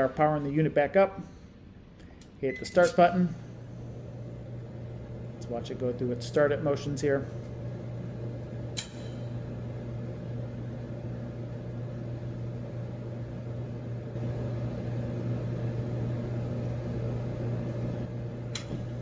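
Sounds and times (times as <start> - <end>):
dryer motor and blower hum: 2.5 - 19.0.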